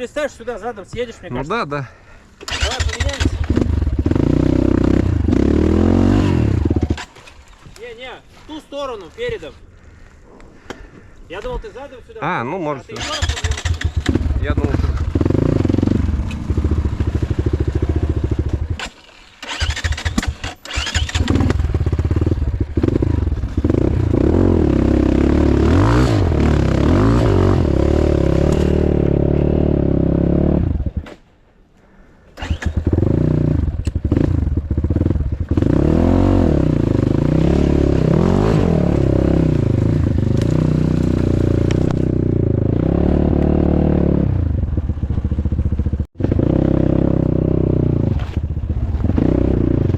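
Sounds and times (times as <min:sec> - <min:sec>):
motorcycle engine revving: 0:02.4 - 0:07.2, 0:13.0 - 0:31.1, 0:32.4 - 0:49.9.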